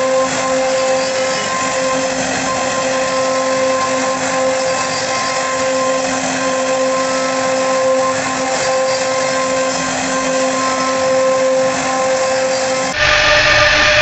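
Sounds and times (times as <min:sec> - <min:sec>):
router bit cutting wood hiss: 0:00.0 - 0:14.0
wood router spindle humming: 0:00.0 - 0:14.0.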